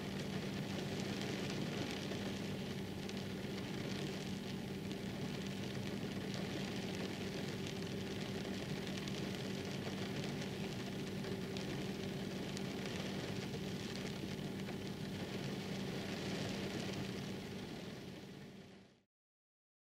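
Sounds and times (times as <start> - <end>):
rain hiss: 0.0 - 18.8
raindrop ticks: 0.2 - 17.3.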